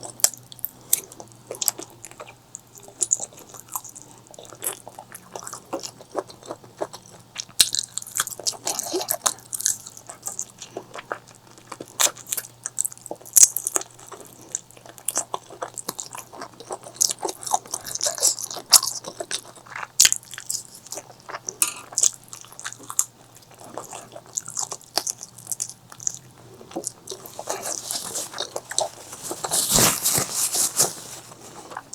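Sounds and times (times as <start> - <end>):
person chewing food: 0.0 - 31.9.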